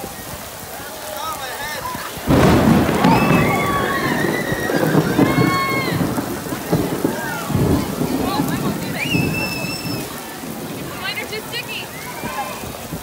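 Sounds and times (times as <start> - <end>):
heavy rain on pavement: 0.0 - 13.0
thunder rumbling: 2.1 - 13.0.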